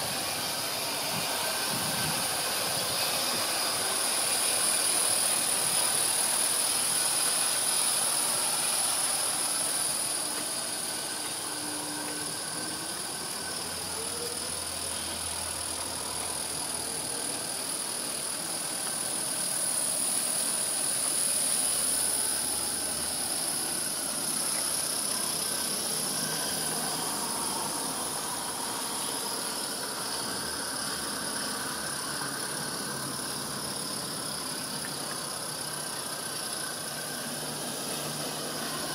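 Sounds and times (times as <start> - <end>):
steam locomotives hissing: 0.0 - 38.9.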